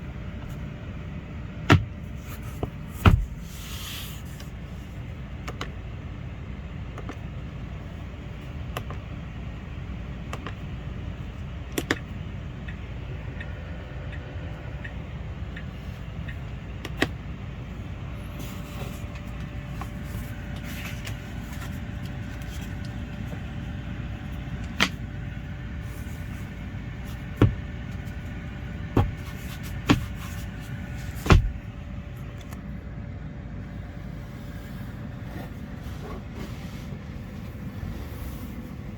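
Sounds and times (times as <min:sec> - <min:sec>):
low vehicle rumble: 0:00.0 - 0:38.9.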